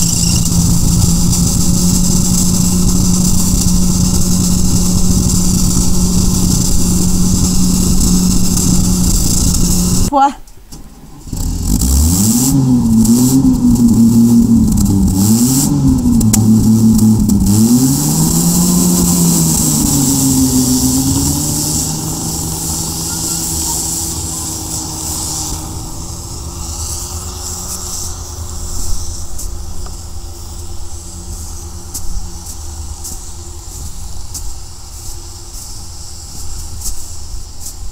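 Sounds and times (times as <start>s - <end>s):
tracked vehicle engine revving: 0.0s - 10.1s, 10.8s - 37.8s.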